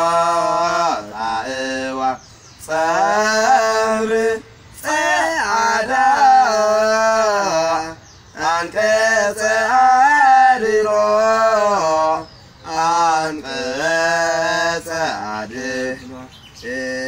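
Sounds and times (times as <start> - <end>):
man singing chant-like melody: 0.0 - 17.0.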